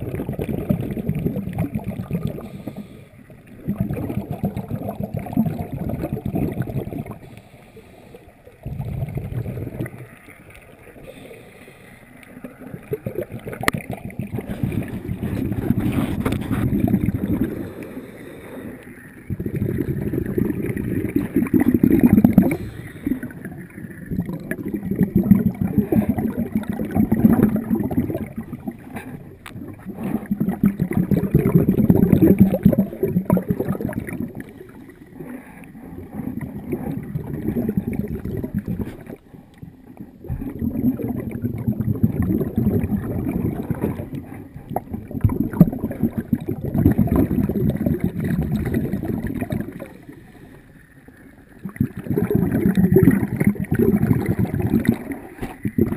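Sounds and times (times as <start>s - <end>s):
underwater exhaled air bubbling: 0.0s - 55.9s.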